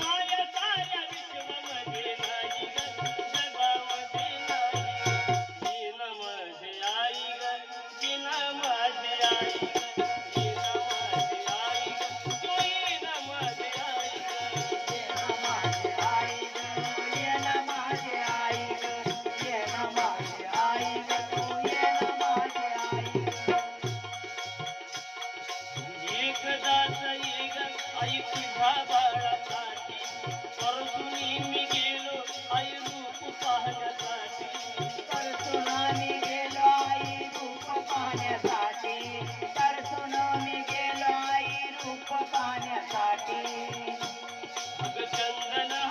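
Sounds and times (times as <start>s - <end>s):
high rattling percussion: 0.0s - 45.9s.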